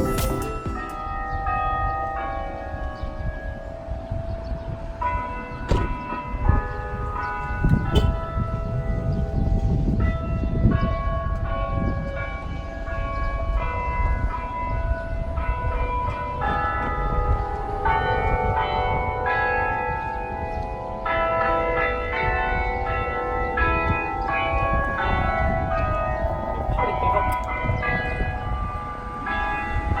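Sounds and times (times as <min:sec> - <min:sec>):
chiming bell-like melody: 0:00.0 - 0:03.7, 0:05.0 - 0:30.0.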